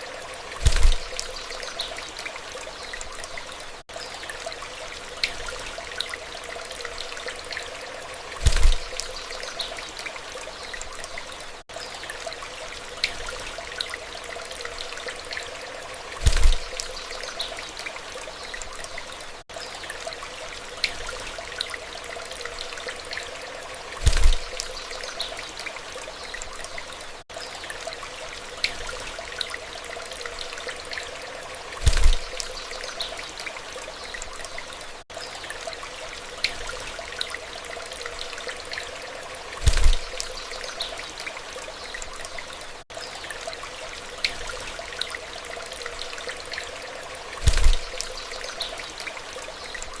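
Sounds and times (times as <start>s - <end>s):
water trickling: 0.0s - 50.0s.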